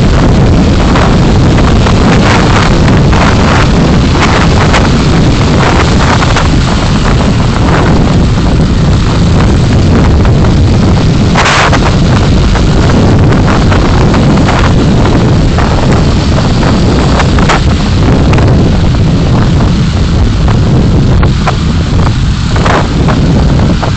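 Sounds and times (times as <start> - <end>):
road and wind noise: 0.0 - 23.9
wind buffeting microphone: 0.0 - 23.9.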